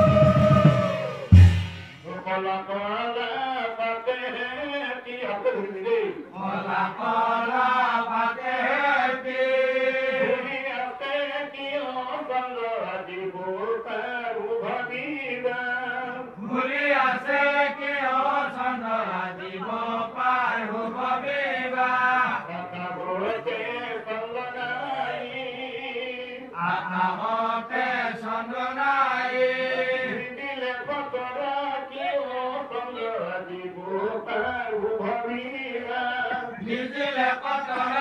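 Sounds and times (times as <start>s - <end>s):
men chanting: 0.0s - 38.0s.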